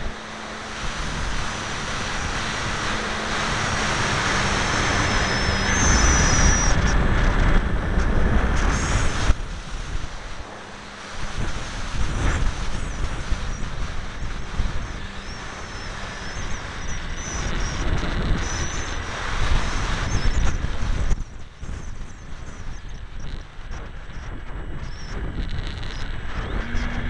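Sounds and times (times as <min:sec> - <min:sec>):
high whine of electric motor: 0:00.0 - 0:27.0
wind buffeting microphone: 0:00.0 - 0:27.0.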